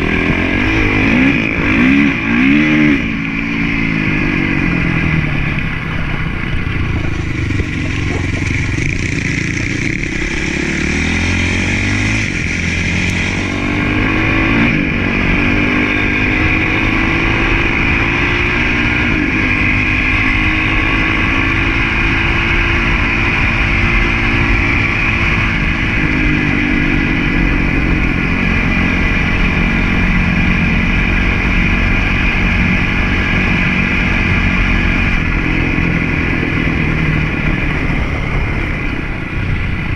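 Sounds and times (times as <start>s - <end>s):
motocross bike engine revving: 0.0s - 39.1s.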